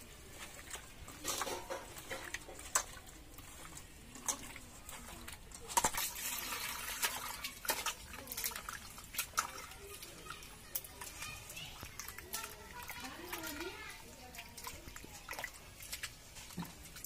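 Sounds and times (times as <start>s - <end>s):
fish splashing in bowl of water: 0.0s - 17.0s
water poured into bowl: 0.0s - 17.0s.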